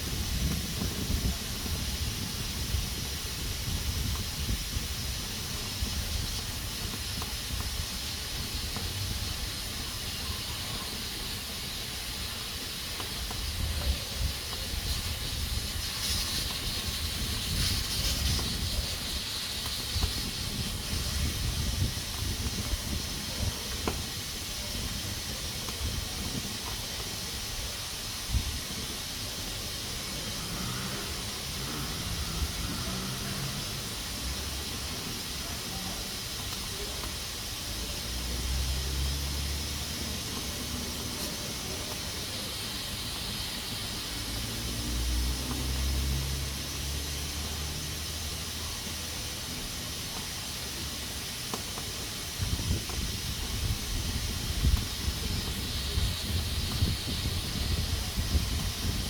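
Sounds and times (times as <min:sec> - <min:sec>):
pressure cooker hissing: 0:00.0 - 0:59.0.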